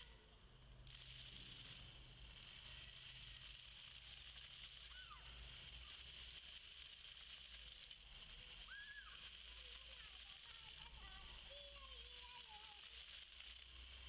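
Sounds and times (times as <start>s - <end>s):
fountain jets spraying on paving: 0.0s - 14.0s.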